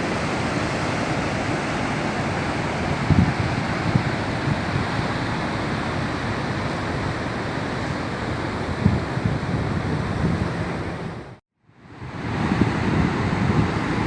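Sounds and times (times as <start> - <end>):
waves breaking on shore: 0.0 - 14.0.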